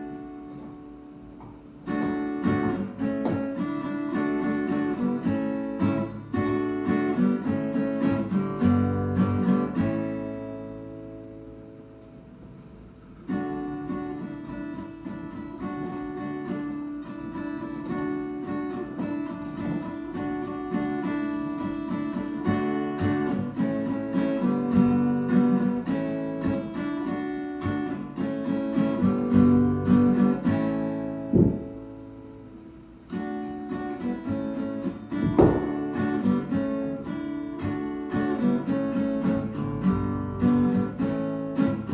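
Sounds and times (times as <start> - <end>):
acoustic guitar strumming chords: 0.0 - 41.9.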